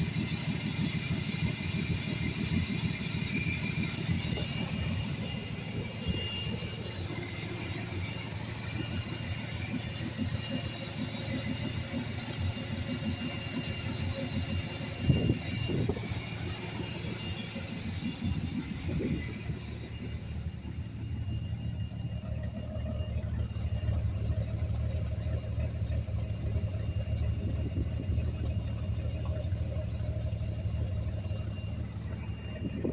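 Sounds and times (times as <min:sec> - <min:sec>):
truck engine running: 0:00.0 - 0:32.9.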